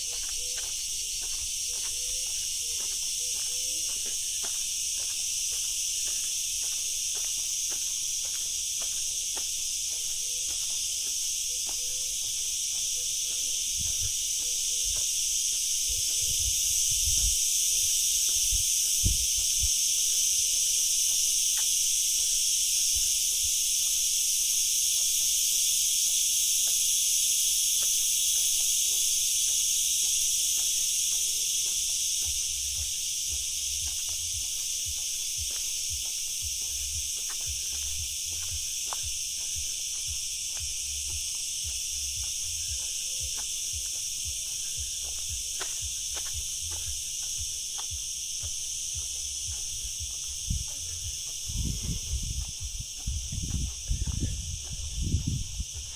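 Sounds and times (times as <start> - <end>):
footsteps on a path: 0.0 - 55.9
insects chirping: 0.0 - 55.9.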